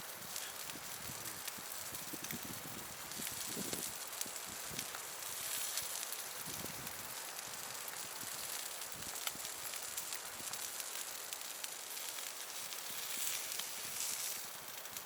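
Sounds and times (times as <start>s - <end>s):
steady fire hiss: 0.0s - 15.0s
wood fire crackling: 0.0s - 15.0s.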